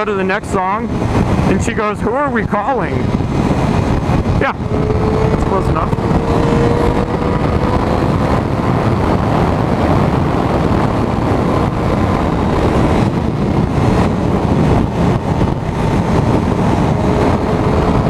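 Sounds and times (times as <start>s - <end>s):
wind rushing over microphone: 0.0s - 18.0s
motorcycle engine running: 0.9s - 18.0s.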